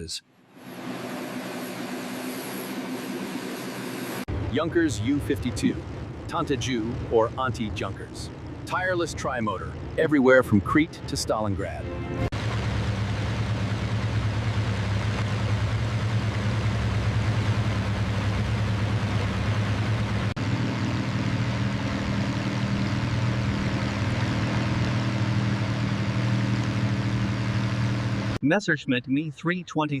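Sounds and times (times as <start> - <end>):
propeller aircraft engines droning: 0.0 - 28.4.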